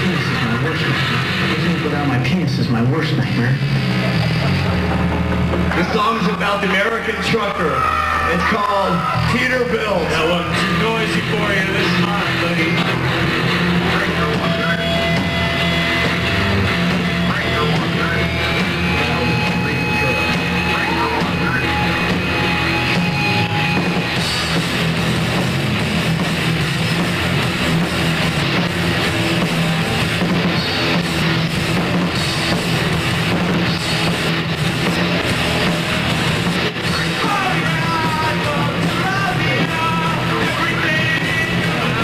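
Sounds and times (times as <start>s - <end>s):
punk rock band playing: 0.0s - 42.0s.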